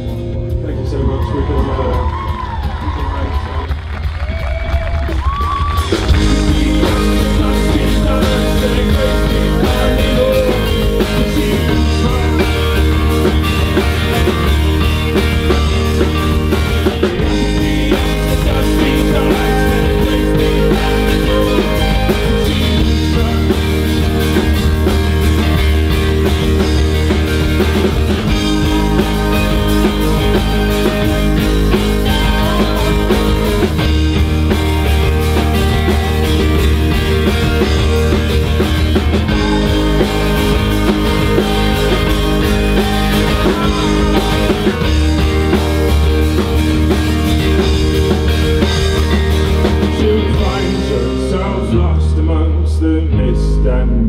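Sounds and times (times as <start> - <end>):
bass guitar: 0.0 - 54.0
drums: 0.0 - 54.0
electric guitars: 0.0 - 54.0.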